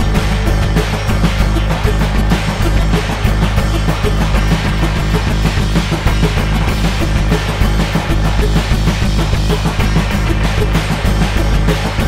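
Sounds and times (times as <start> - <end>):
drum and cymbal hits: 0.0 - 12.0
low electronic bass: 0.0 - 12.0.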